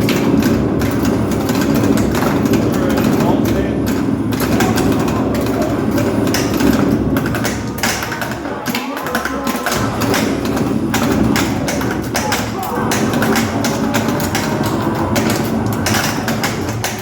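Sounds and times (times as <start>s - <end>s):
pinball flippers clacking: 0.0s - 17.0s.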